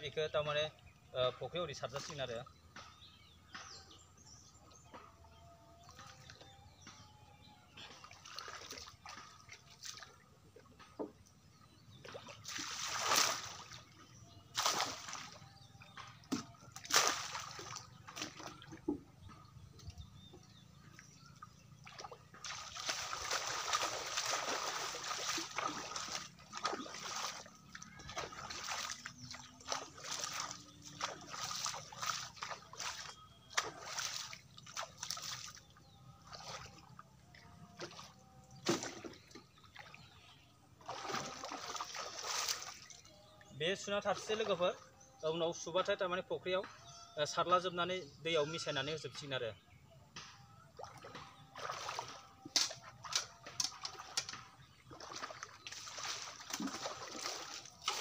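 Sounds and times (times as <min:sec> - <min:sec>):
pond water splashing: 0:00.0 - 0:47.1, 0:49.5 - 0:58.0.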